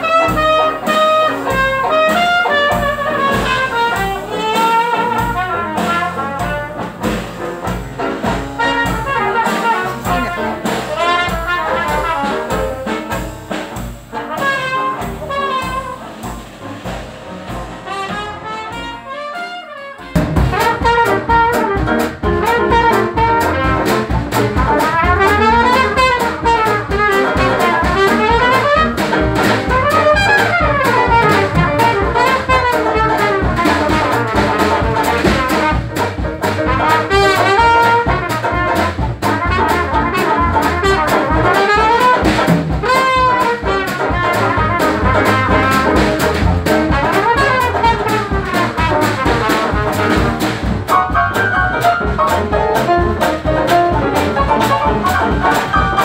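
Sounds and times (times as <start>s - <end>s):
muted trumpet melody: 0.0s - 7.1s, 8.6s - 13.5s, 14.1s - 16.3s, 17.8s - 50.4s, 51.1s - 56.0s
jazz band playing: 0.0s - 56.0s.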